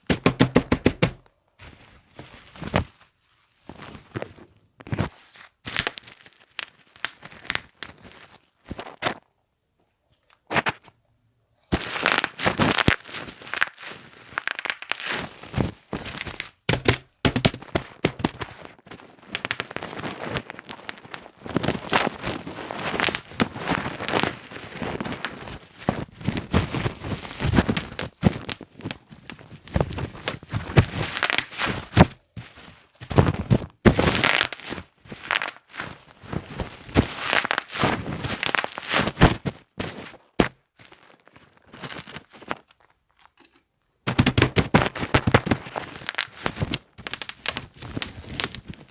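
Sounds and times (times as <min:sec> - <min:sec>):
bubble wrap popping: 0:00.0 - 0:09.2, 0:11.7 - 0:43.4, 0:44.0 - 0:48.9
plastic crinkling: 0:01.6 - 0:09.0, 0:11.7 - 0:48.9.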